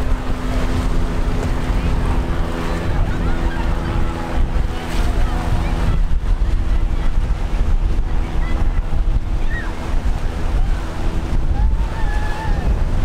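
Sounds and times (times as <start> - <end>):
surf: 0.0 - 13.0
wind buffeting microphone: 0.0 - 13.0.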